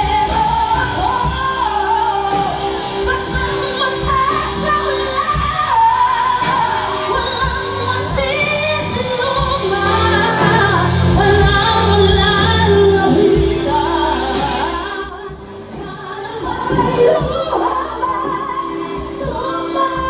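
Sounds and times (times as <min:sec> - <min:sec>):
bass guitar: 0:00.0 - 0:20.0
person singing: 0:00.0 - 0:20.0.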